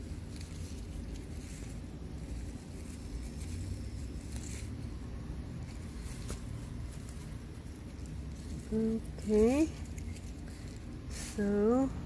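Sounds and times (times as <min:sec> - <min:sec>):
leaves rustling and crackling: 0:00.0 - 0:12.0
steady low rumble: 0:00.0 - 0:12.0.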